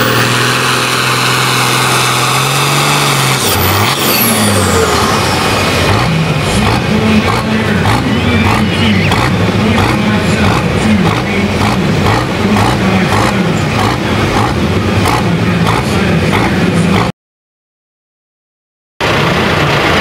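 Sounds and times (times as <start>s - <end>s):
tractor diesel engine running: 0.0s - 17.1s, 19.0s - 20.0s.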